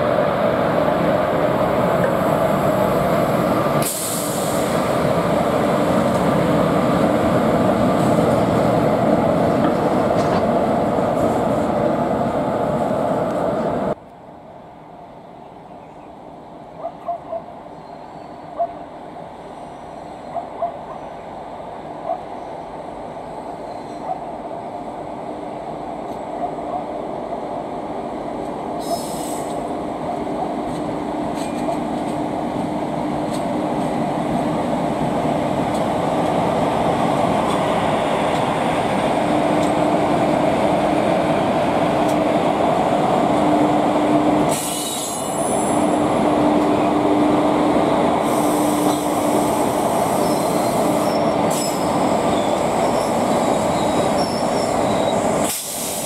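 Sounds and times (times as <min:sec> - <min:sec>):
train wheel and rail noise: 0:00.0 - 0:56.0.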